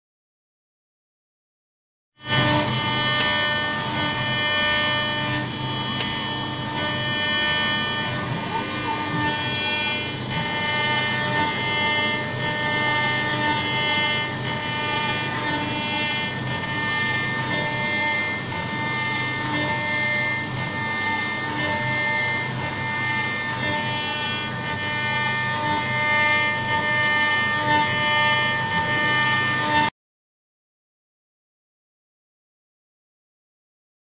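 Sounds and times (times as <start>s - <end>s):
router spindle whining: 2.2s - 29.9s.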